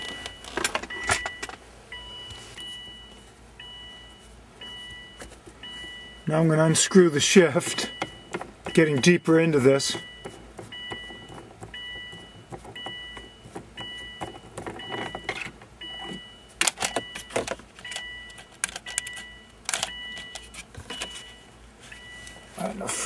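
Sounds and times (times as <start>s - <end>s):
two-tone electronic warning chime: 0.0s - 23.0s.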